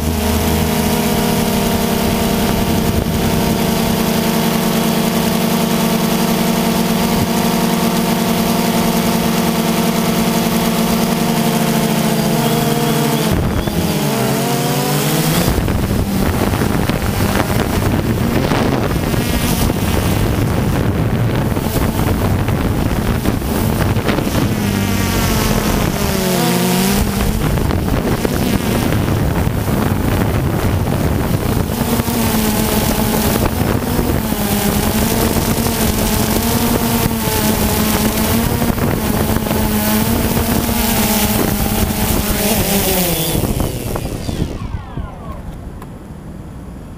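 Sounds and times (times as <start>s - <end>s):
wind noise on microphone: 0.0s - 46.4s
drone propellers buzzing: 0.0s - 46.9s.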